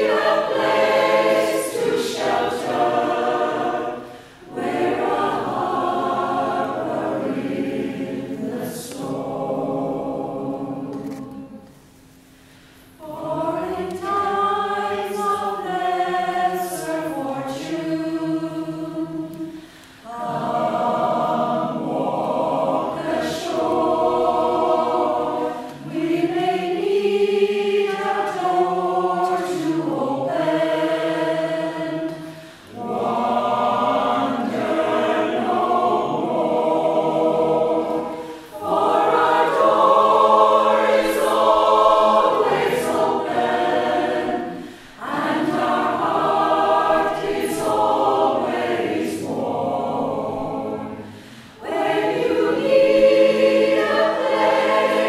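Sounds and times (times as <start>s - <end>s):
choir singing: 0.0s - 12.0s, 12.9s - 55.0s.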